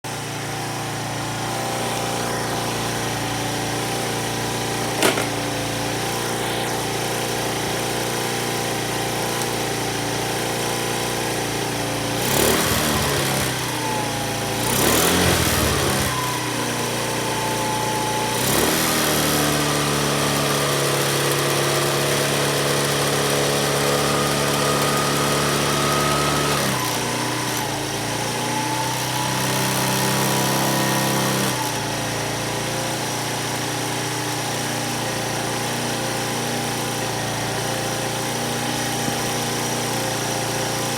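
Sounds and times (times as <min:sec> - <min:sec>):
scooter engine idling and revving: 0:00.0 - 0:40.9.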